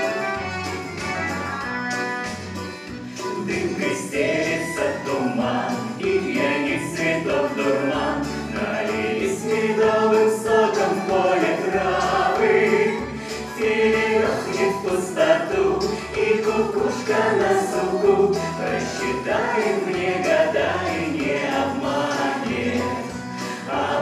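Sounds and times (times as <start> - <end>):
instrumental backing: 0.0 - 24.0
vocal group singing: 3.0 - 24.0.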